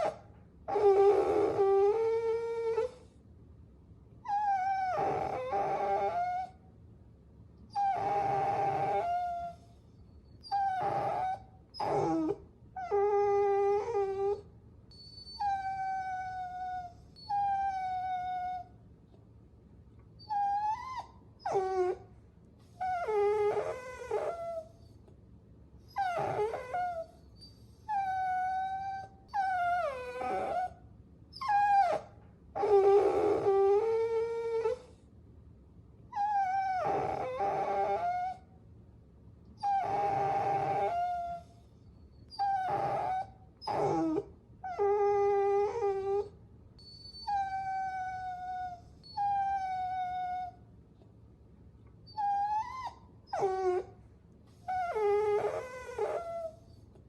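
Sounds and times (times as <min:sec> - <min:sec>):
puppy whining: 0:00.0 - 0:03.2, 0:04.2 - 0:06.6, 0:07.7 - 0:18.8, 0:20.0 - 0:25.2, 0:25.8 - 0:35.1, 0:36.1 - 0:38.6, 0:39.6 - 0:51.1, 0:51.8 - 0:57.0.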